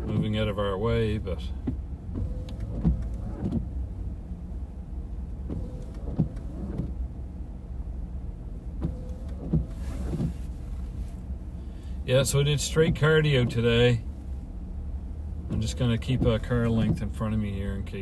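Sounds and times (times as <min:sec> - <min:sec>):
low rumble inside a car: 0:00.0 - 0:18.0.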